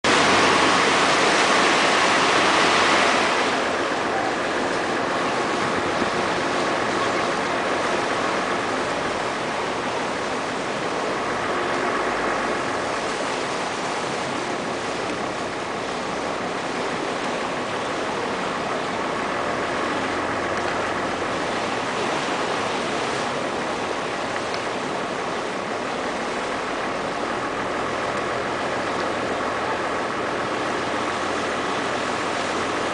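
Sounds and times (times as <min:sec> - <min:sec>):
motorboat engine drone: 0:00.0 - 0:32.9
water rushing past hull: 0:00.0 - 0:32.9.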